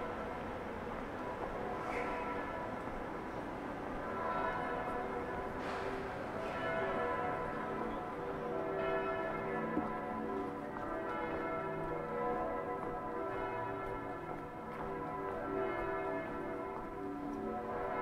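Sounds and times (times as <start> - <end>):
church bells pealing: 0.0 - 18.0.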